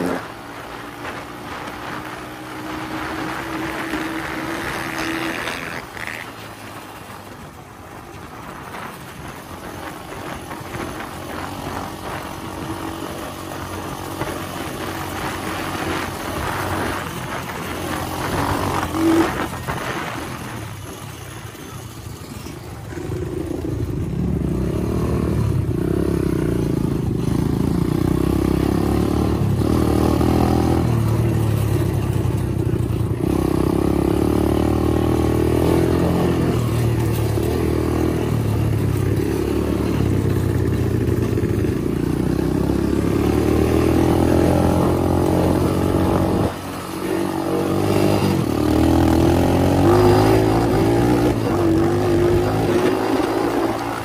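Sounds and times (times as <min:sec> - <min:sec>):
motorbike engine under throttle: 0:00.0 - 0:54.0.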